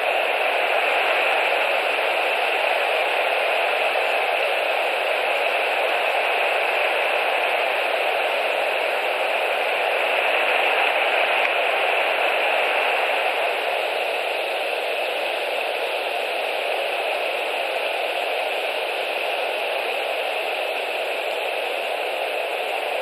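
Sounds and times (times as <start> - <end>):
microphone static hiss: 0.0 - 23.0.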